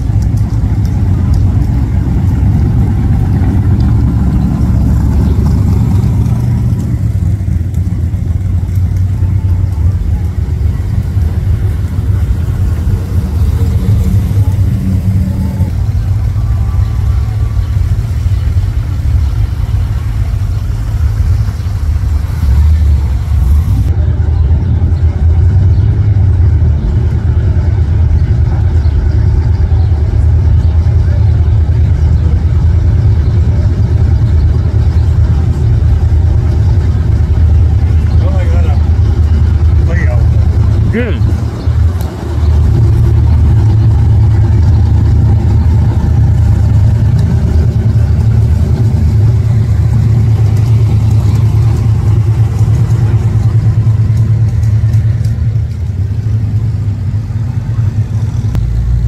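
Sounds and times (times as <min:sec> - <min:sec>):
car engines rumbling: 0:00.0 - 0:59.0.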